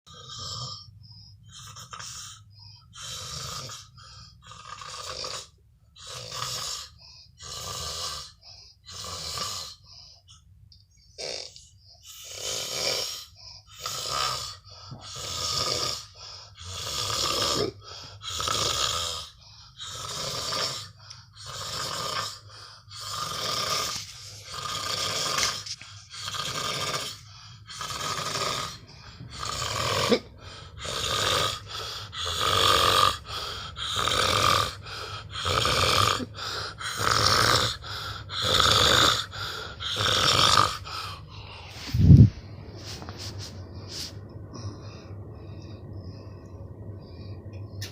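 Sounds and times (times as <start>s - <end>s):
heavy snoring: 0.1s - 10.0s, 11.1s - 42.3s.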